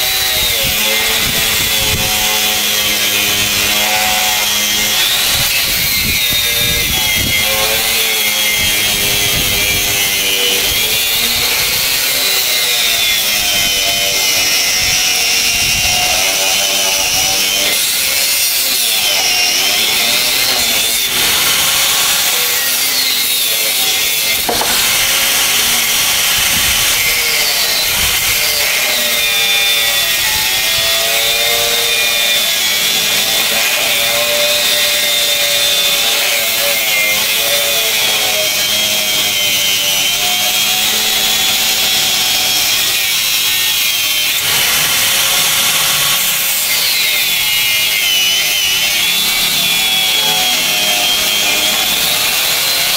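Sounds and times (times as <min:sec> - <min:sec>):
angle grinder cutting steel: 0:00.0 - 0:52.9.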